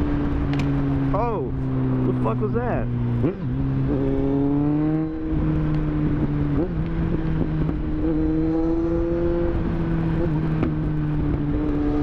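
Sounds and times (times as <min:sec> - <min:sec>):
wind rush on microphone: 0:00.0 - 0:02.2, 0:02.8 - 0:12.0
motorcycle engine running: 0:00.0 - 0:12.0.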